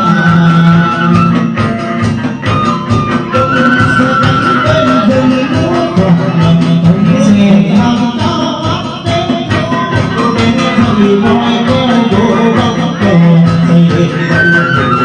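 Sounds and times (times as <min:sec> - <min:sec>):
person singing: 0:00.0 - 0:15.0
steady ticking beat: 0:00.1 - 0:15.0.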